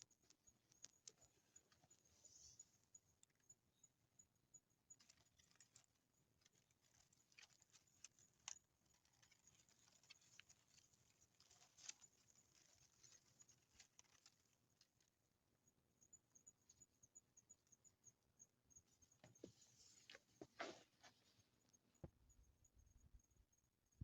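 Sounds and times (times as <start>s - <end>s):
faint irregular ticks: 0.0s - 24.0s.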